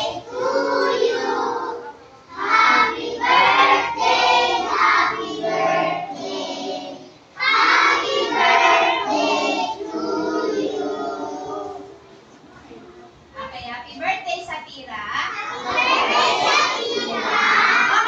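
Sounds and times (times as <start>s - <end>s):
children singing in unison: 0.0s - 12.0s, 15.4s - 18.0s.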